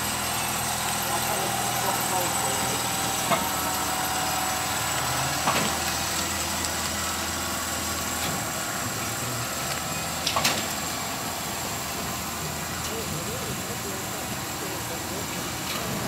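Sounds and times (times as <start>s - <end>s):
trolleybus running hum: 0.0s - 16.0s.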